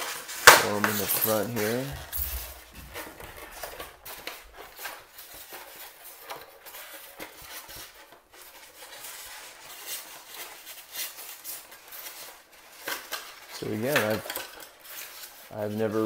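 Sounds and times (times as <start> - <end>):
packaging rustling and crinkling: 0.0 - 16.0.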